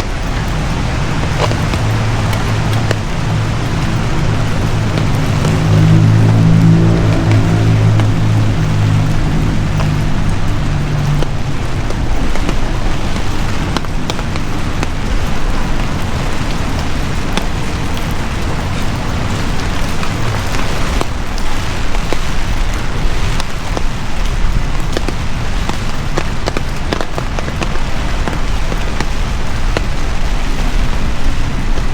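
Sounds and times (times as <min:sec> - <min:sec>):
heavy rain falling: 0:00.0 - 0:31.9
low hum: 0:00.0 - 0:31.9.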